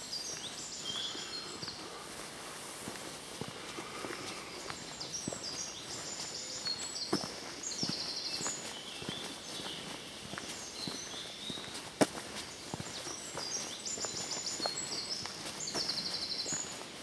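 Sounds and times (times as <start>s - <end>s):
footsteps on dirt path: 0.0s - 17.0s
songbird singing: 0.0s - 17.0s.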